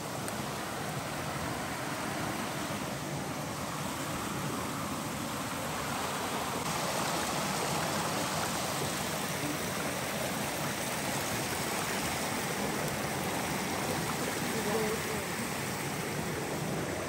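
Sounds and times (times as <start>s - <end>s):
creek water flowing over rocks: 0.0s - 17.0s.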